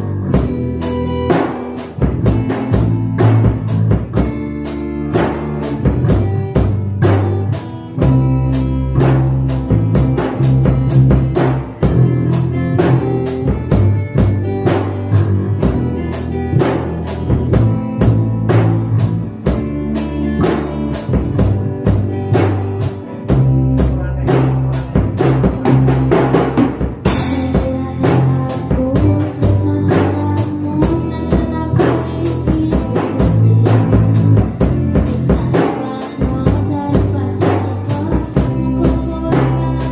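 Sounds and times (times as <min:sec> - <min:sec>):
band playing pop instrumental: 0:00.0 - 0:39.9
drum kit beat: 0:00.0 - 0:39.9.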